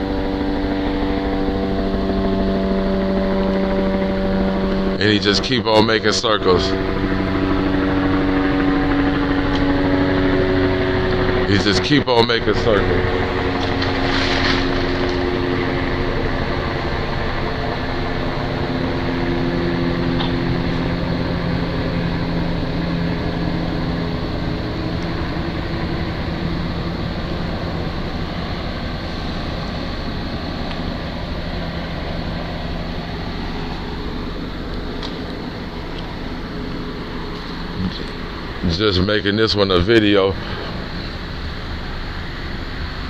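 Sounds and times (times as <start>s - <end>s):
helicopter engine and rotor drone: 0.0s - 43.0s.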